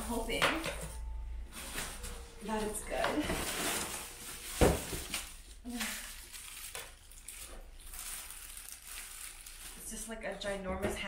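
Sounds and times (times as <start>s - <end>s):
plastic wrapping rustling: 0.0s - 10.7s
contents rustling in cardboard box: 1.5s - 10.6s.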